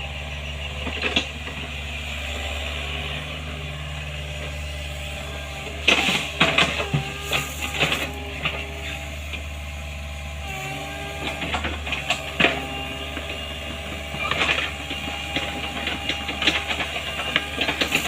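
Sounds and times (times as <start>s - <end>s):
excavator running: 0.0s - 18.0s.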